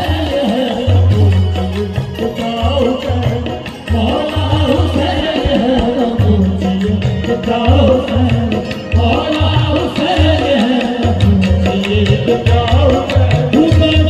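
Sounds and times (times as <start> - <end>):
harmoniums playing melody: 0.0 - 14.0
singing: 0.0 - 14.0
tabla beat: 0.0 - 14.0.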